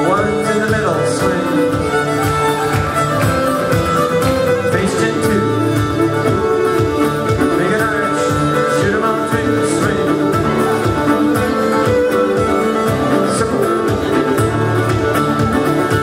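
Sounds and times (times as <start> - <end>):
fiddle melody: 0.0 - 16.0
guitar strumming steady beat: 0.0 - 16.0.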